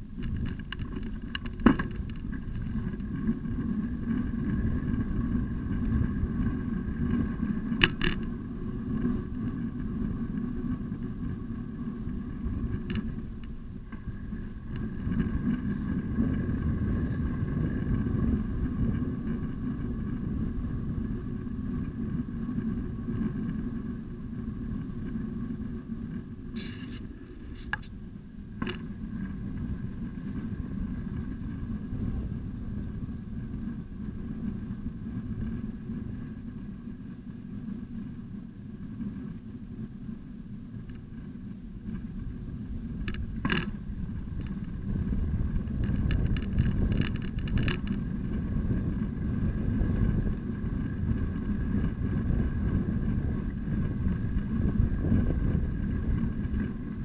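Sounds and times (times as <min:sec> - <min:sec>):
bicycle rolling on pavement: 0:00.0 - 0:57.0.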